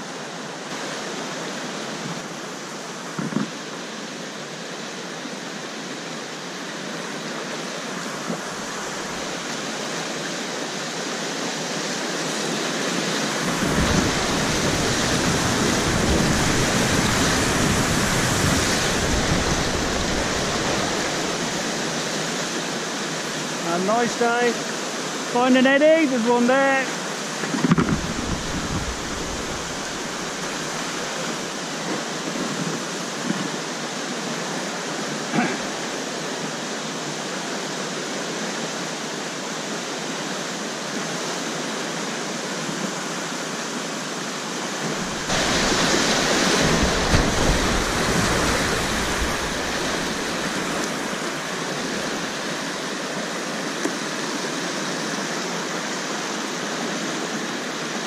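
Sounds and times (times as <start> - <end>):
river rapids rushing: 0.0 - 58.0.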